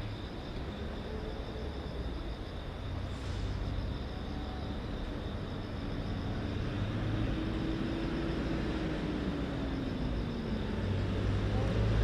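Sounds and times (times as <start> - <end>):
distant road traffic rumble: 0.0 - 12.0
faint engine hum: 0.0 - 12.0.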